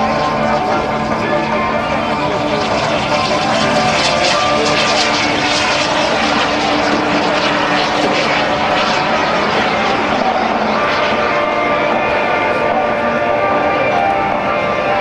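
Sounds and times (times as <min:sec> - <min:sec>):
aircraft engine rush: 0:00.0 - 0:15.0
low hum: 0:00.0 - 0:15.0.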